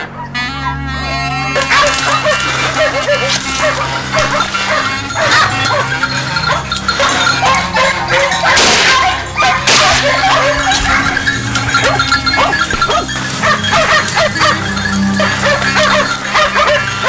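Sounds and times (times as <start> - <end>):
hounds barking and yelping: 0.0 - 17.0.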